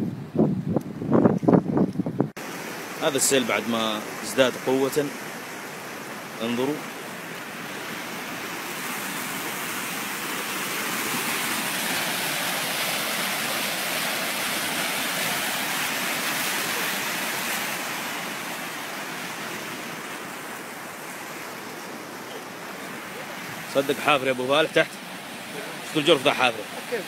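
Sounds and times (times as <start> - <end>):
floodwater rushing: 2.4 - 27.0.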